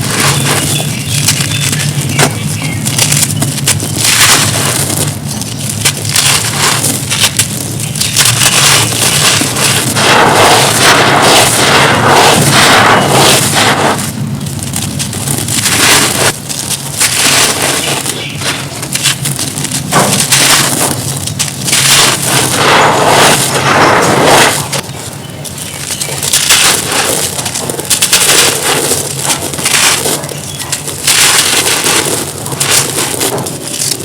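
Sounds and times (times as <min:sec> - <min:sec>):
dry material being crushed: 0:00.0 - 0:34.0.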